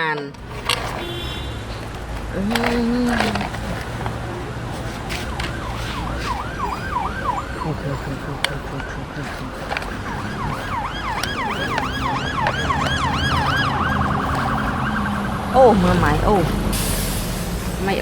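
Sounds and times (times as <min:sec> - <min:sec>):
toy siren warbling wail: 0:01.8 - 0:16.7.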